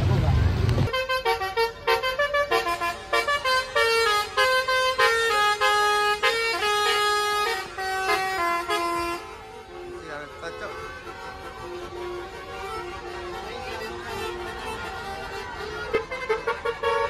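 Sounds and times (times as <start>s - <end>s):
bus horn playing a tune: 0.9s - 17.0s.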